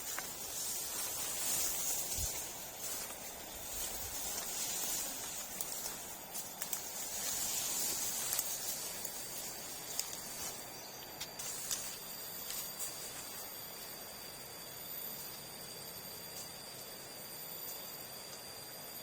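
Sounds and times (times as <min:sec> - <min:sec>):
thin high tone: 0:00.0 - 0:18.4
steady high hiss: 0:00.0 - 0:19.0.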